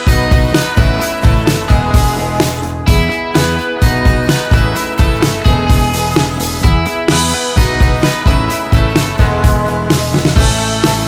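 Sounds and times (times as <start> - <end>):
guitar: 0.0 - 11.0
steady drum beat: 0.0 - 11.0
upbeat instrumental music: 0.0 - 11.0.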